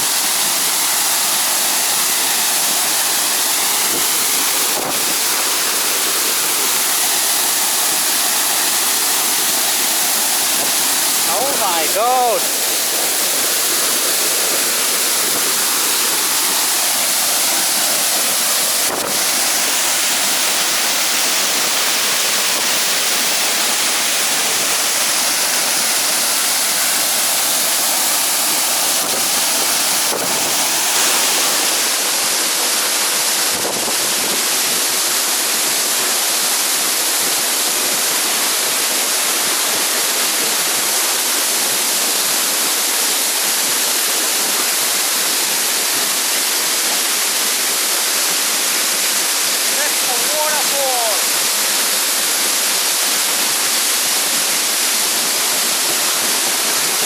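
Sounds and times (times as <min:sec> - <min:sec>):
waterfall crashing: 0:00.0 - 0:57.0.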